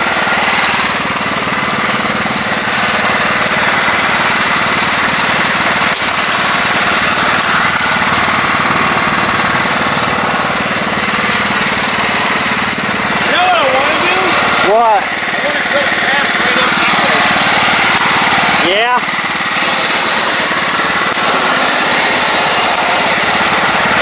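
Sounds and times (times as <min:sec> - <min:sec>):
riding lawn mower engine: 0:00.0 - 0:24.0.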